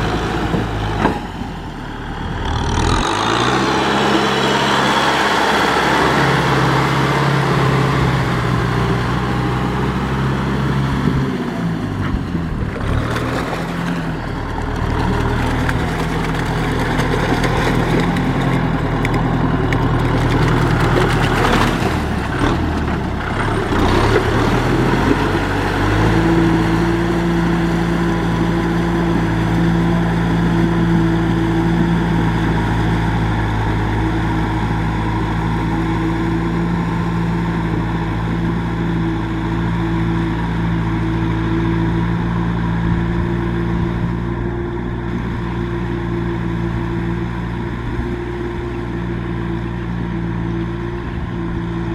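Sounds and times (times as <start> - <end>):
tractor engine running under load: 0.0 - 51.9.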